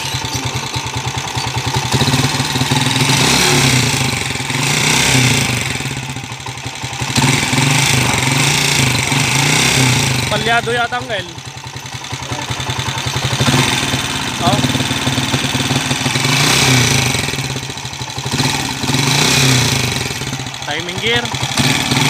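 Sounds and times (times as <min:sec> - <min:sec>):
motorcycle engine rattling clack: 0:00.0 - 0:22.0.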